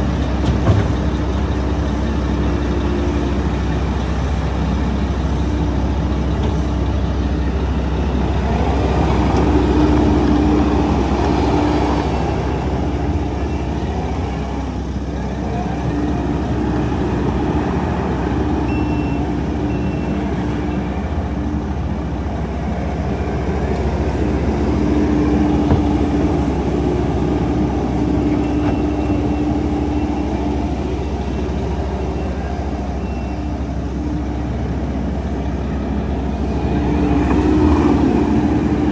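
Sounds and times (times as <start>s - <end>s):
diesel loader engine running: 0.0s - 38.9s.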